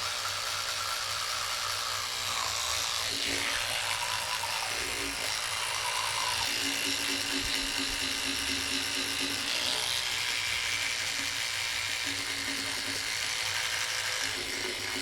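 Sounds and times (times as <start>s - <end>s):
electric toothbrush buzzing: 0.0s - 15.0s.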